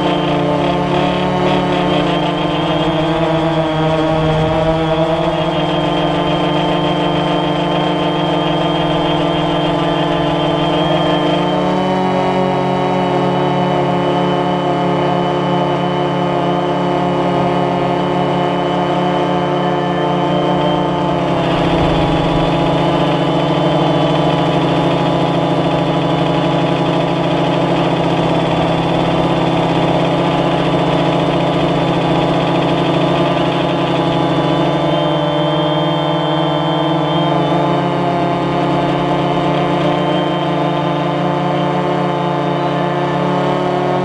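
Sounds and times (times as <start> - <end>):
drone motors humming: 0.0 - 14.3, 16.5 - 43.4.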